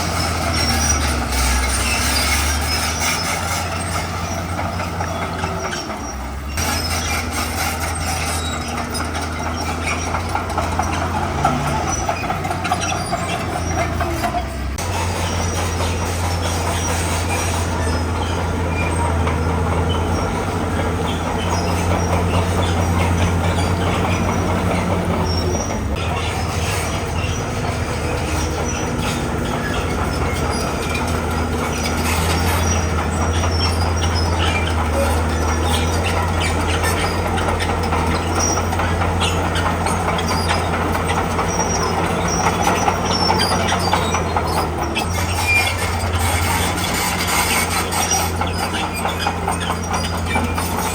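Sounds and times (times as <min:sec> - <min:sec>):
bulldozer diesel engine running: 0:00.0 - 0:50.9
crawler tracks squealing and clinking: 0:00.0 - 0:50.9.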